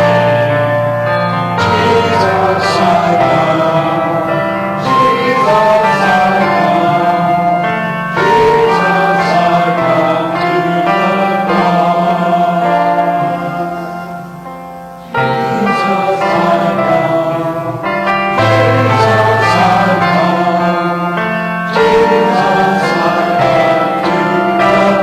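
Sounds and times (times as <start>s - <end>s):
instrumental accompaniment: 0.0s - 25.0s
voices singing a hymn: 0.0s - 25.0s.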